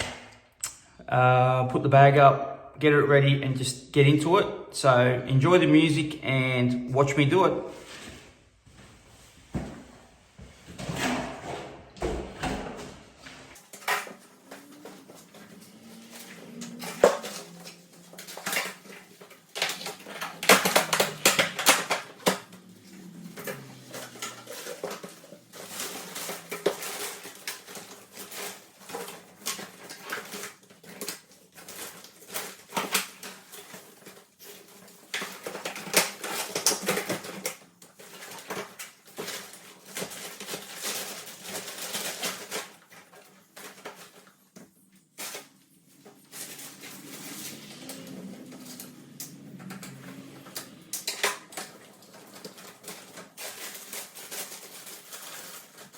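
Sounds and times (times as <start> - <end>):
plastic and metal parts clattering: 10.7 - 55.9.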